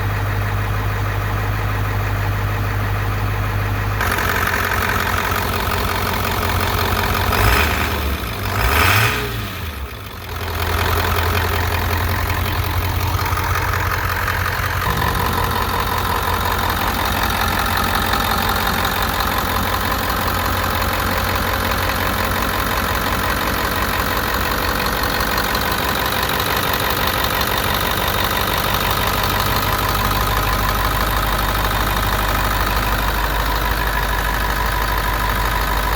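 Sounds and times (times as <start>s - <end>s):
diesel engine revving and idling: 0.0s - 35.9s.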